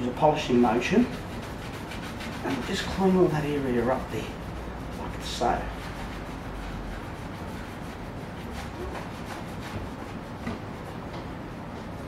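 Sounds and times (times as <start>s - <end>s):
cloth rubbing car paint: 0.1s - 12.0s.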